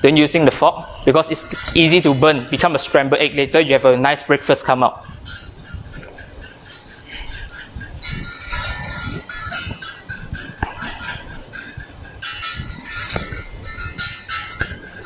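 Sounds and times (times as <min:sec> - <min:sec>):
whisk scraping a saucepan: 0:00.0 - 0:15.0.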